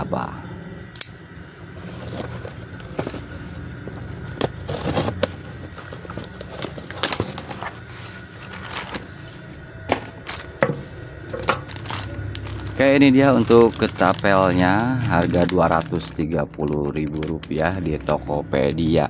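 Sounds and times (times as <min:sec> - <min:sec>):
low background hum: 0:00.0 - 0:19.0
plastic bag rustling: 0:01.7 - 0:18.4
packing tape crackling: 0:01.8 - 0:10.7, 0:11.3 - 0:18.9.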